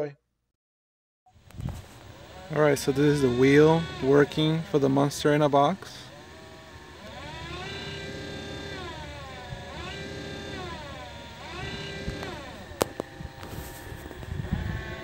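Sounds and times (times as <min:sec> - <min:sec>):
wiper motor whine: 0:01.4 - 0:15.0.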